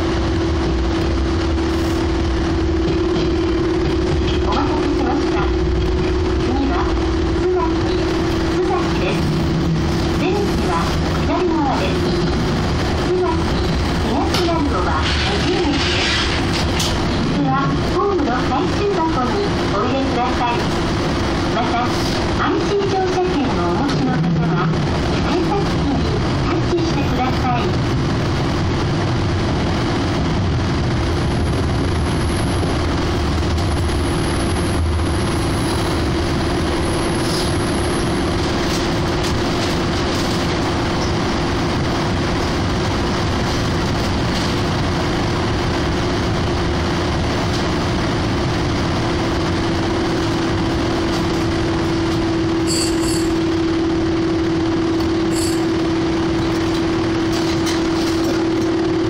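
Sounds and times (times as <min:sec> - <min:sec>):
constant electric hum: 0:00.0 - 0:59.0
train wheels rumbling on rails: 0:00.0 - 0:59.0.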